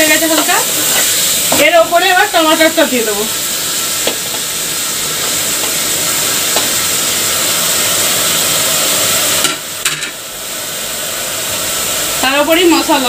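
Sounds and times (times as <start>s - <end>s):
meat and onions sizzling in oil: 0.0s - 13.0s.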